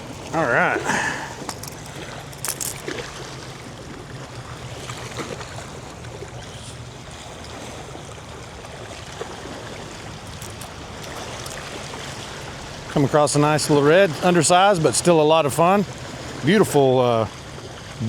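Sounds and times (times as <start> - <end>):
small waves lapping on shore: 0.0 - 18.0.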